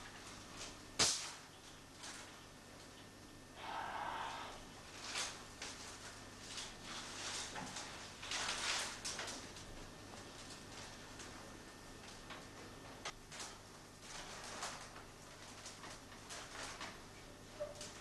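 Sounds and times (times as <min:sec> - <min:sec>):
wicker rods rustling and creaking: 0:00.0 - 0:03.0, 0:04.4 - 0:18.0.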